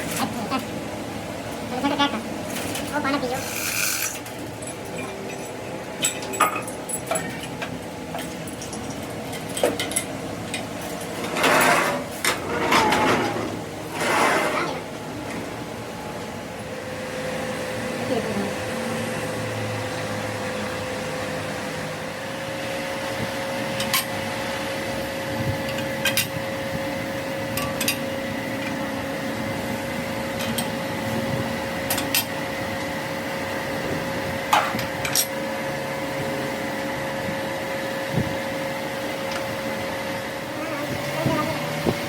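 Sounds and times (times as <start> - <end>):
workshop machine humming: 0.0 - 42.0.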